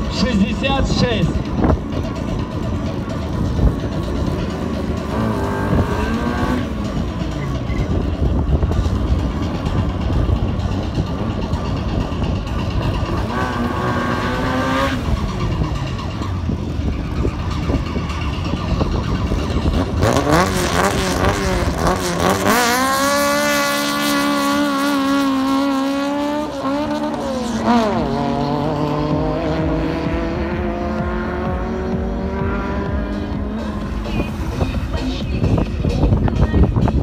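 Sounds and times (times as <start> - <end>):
drag racing car engines revving: 0.0 - 37.0.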